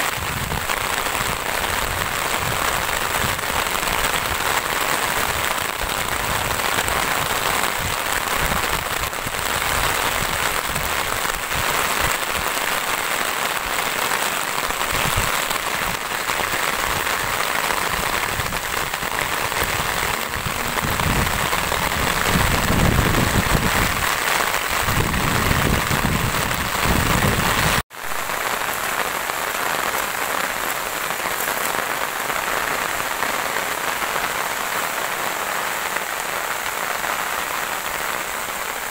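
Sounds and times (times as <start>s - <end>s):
rain on leafy plants: 0.0s - 38.9s.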